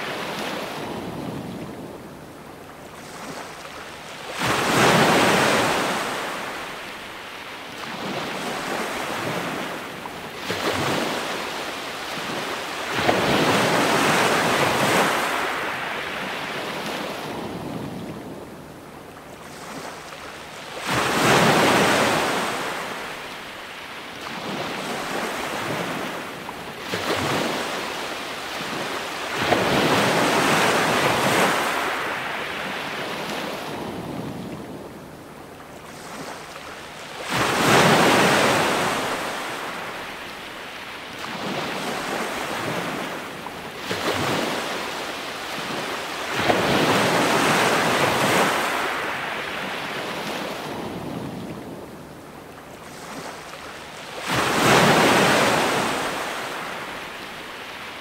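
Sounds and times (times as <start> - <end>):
ocean waves breaking: 0.0 - 18.6, 19.2 - 35.0, 35.6 - 51.8, 52.6 - 58.0.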